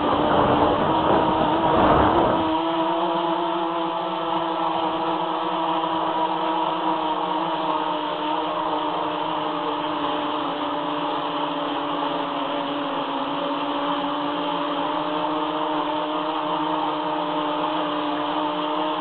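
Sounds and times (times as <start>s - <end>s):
quadcopter buzzing hum: 0.0s - 19.0s.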